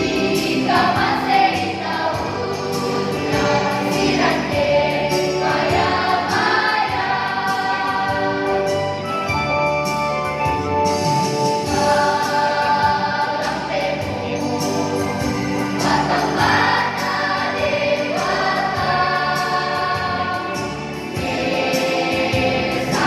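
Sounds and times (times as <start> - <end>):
choir singing sustained chords: 0.0 - 8.9, 11.5 - 23.0.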